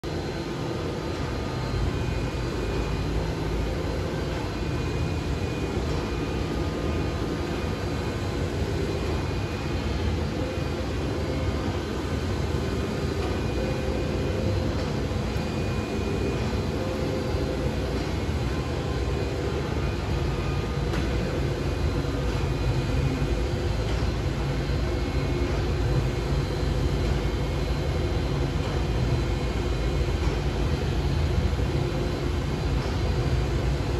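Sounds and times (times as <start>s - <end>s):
printer machine whir: 0.0s - 33.9s.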